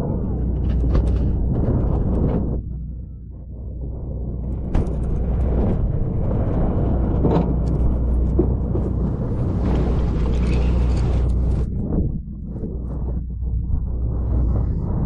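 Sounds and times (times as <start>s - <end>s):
boat engine rumble: 0.0s - 15.0s
wind: 0.0s - 15.0s.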